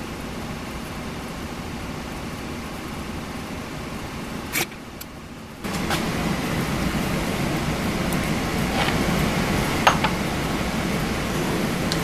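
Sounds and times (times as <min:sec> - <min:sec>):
workshop hum: 0:00.0 - 0:12.0.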